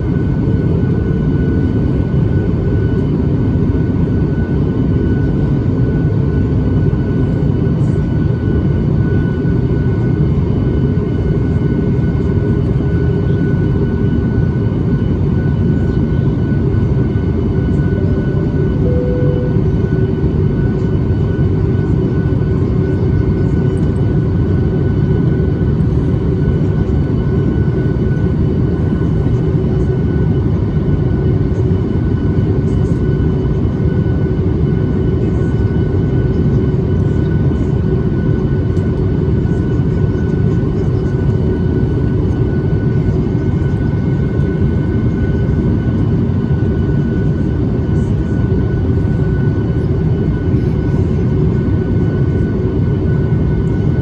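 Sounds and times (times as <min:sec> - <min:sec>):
airflow rush in aircraft cabin: 0:00.0 - 0:54.0
jet engines humming: 0:00.0 - 0:54.0.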